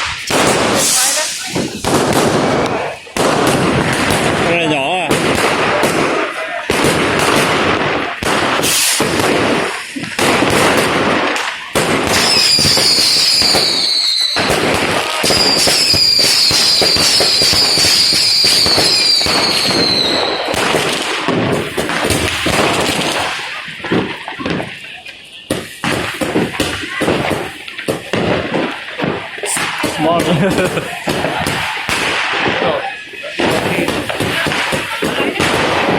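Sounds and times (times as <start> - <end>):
fireworks bangs and crackling: 0.0 - 35.9
fireworks falling whistles: 0.0 - 35.9.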